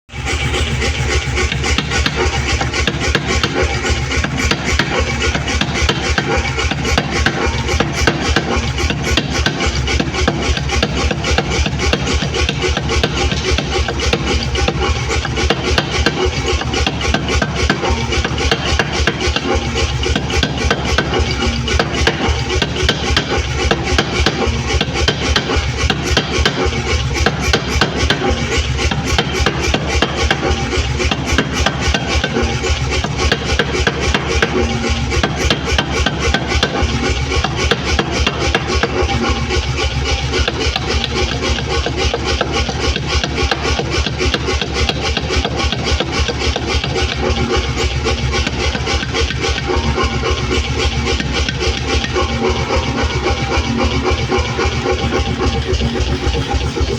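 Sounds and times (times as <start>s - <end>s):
steady low hum: 0.1s - 56.9s.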